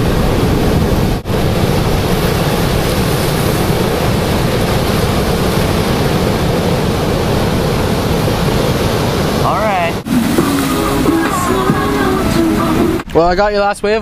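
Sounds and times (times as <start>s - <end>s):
ocean surf breaking: 0.0s - 13.5s
wind buffeting microphone: 0.0s - 14.0s.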